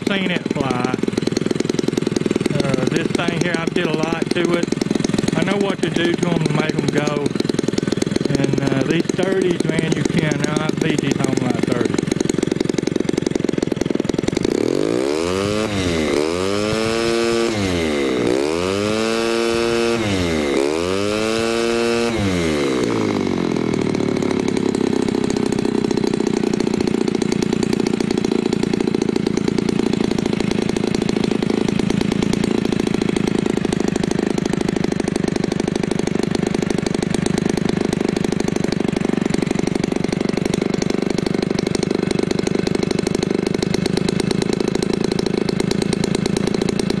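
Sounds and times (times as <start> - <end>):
model airplane engine revving: 0.0 - 47.0.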